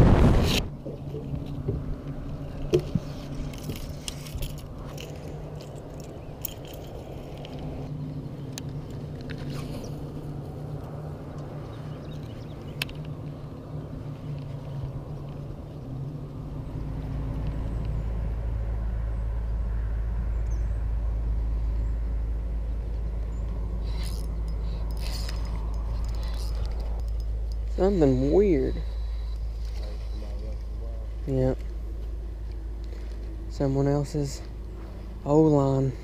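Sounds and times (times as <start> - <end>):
boat motor humming: 0.0 - 36.0
deep engine rumble: 0.0 - 36.0.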